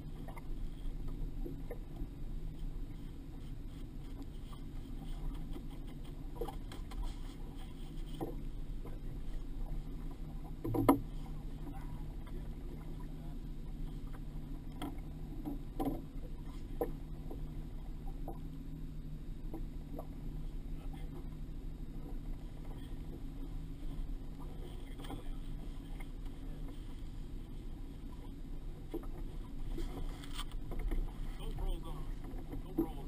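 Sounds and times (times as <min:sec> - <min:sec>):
boat engine hum: 0:00.0 - 0:33.0.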